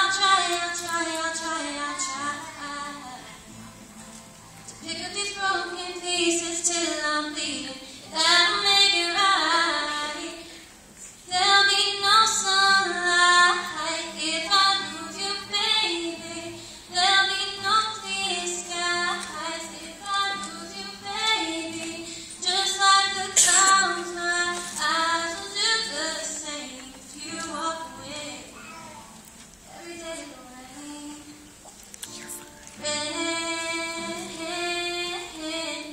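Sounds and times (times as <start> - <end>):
girl singing: 0.0 - 3.5, 4.8 - 10.5, 11.3 - 35.9
acoustic guitar: 0.0 - 35.9.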